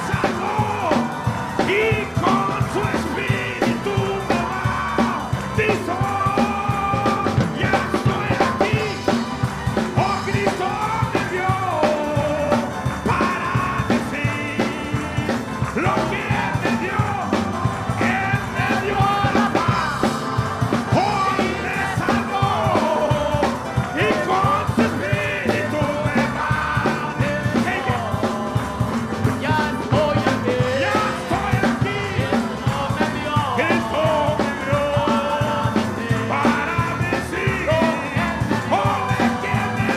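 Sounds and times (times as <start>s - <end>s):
band playing upbeat gospel song: 0.0s - 39.9s
steady drum beat: 0.0s - 39.9s
voices singing: 0.0s - 39.9s.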